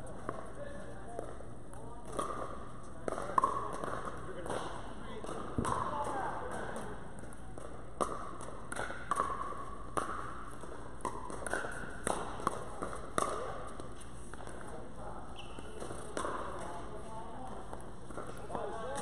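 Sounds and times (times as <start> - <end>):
paddles hitting plastic ball: 1.1 - 14.8, 15.7 - 19.0.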